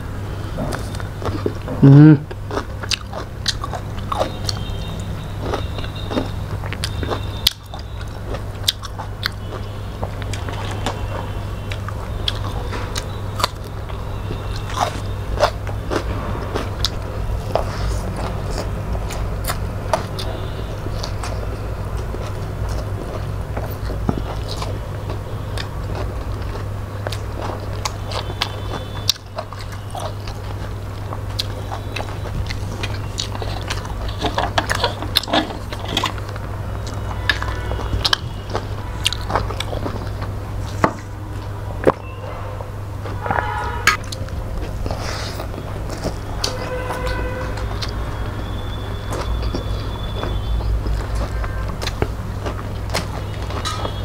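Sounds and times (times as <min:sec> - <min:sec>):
steady low hum: 0:00.0 - 0:54.0
chewing and lip-smacking: 0:00.6 - 0:42.4, 0:43.0 - 0:54.0.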